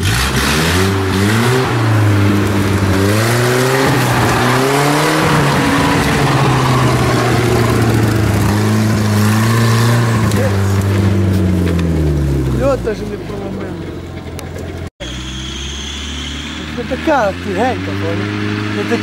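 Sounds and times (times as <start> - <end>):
off-road vehicle engine under load: 0.0 - 19.0.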